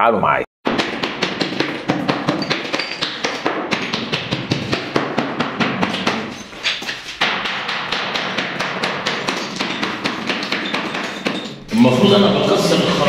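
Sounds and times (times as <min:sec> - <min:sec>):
hammer striking concrete: 0:00.7 - 0:11.6.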